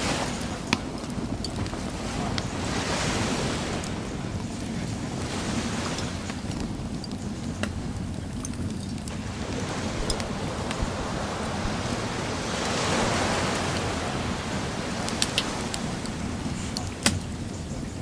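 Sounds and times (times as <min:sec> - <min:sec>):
bonfire wood crackling: 0:00.0 - 0:18.0
ocean surf: 0:00.0 - 0:18.0.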